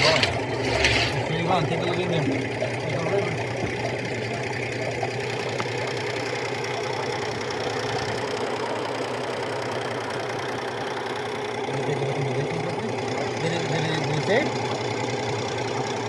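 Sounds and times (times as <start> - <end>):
drain-cleaning machine running: 0.0 - 16.0.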